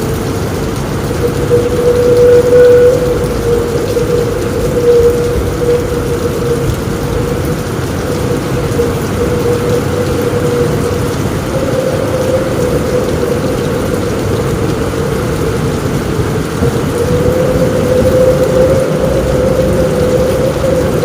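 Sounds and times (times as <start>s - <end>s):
heavy rain on a roof: 0.0s - 21.0s
steady hum: 1.1s - 21.0s.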